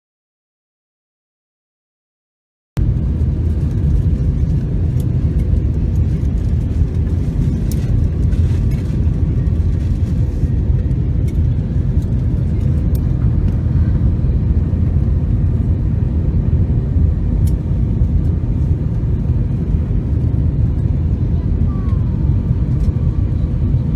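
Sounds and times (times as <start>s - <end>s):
airliner cabin engine rumble: 2.8s - 23.9s.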